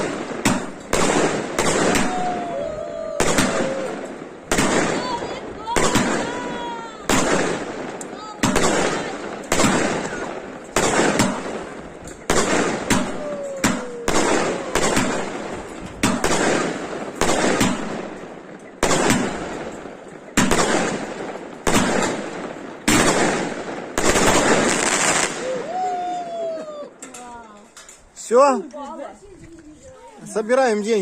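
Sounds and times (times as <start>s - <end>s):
fireworks bangs: 0.0s - 26.8s.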